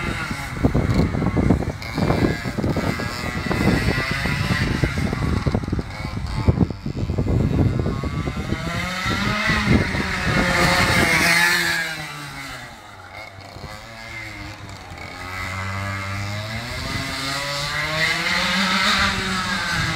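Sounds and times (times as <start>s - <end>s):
go-kart engine revving: 0.0s - 19.9s.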